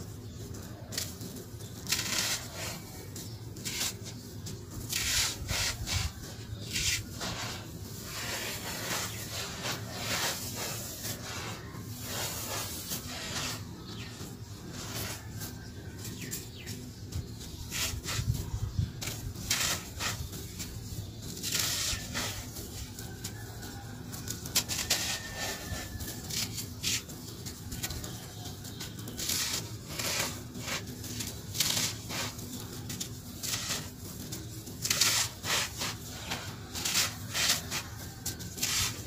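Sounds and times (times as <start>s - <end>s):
powder trickling: 0.0s - 39.0s.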